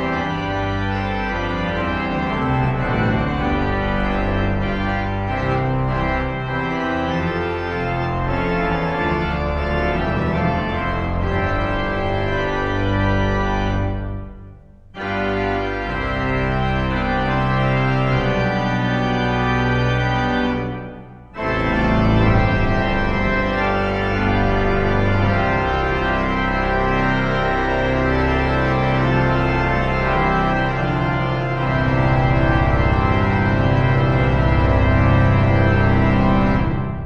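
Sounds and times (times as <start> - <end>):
pipe organ chords: 0.0 - 37.0.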